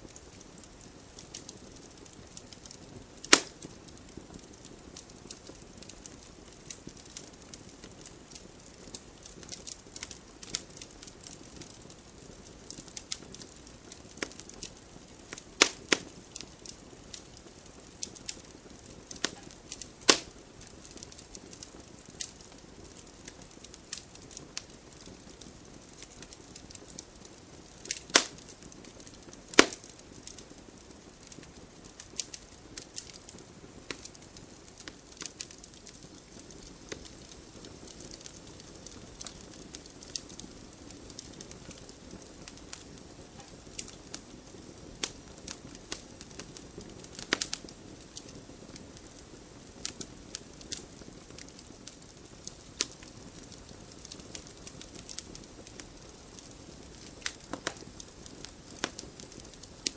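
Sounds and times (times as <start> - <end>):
wood fire crackling and popping: 0.0 - 59.9
fire hissing: 0.1 - 59.9.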